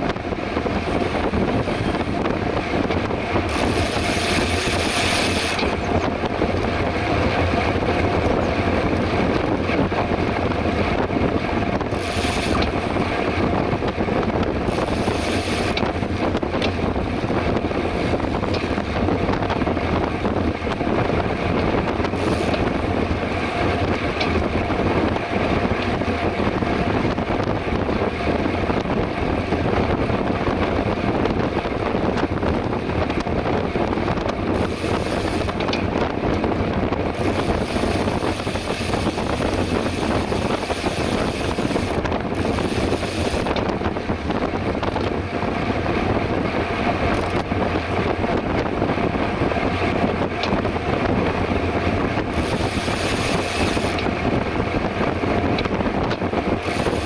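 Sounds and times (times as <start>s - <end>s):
bicycle running noise: 0.0s - 57.0s
wind rushing on microphone: 0.0s - 57.0s.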